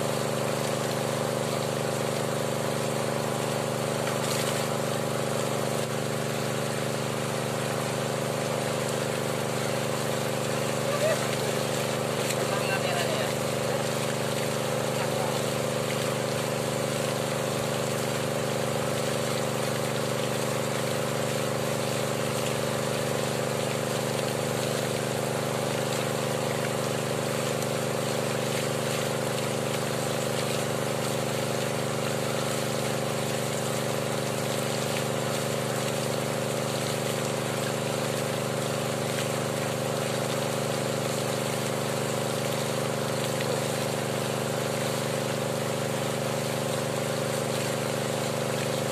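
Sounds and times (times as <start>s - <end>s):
water pump engine running: 0.0s - 48.9s.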